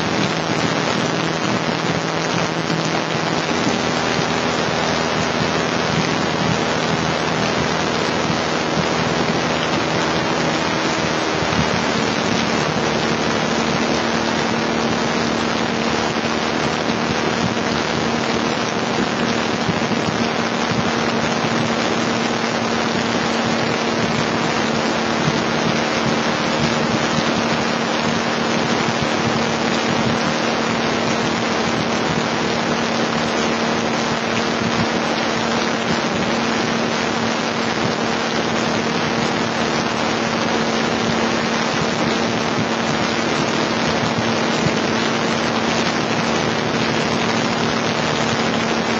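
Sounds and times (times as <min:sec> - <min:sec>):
propeller plane engine in cabin: 0:00.0 - 0:48.9.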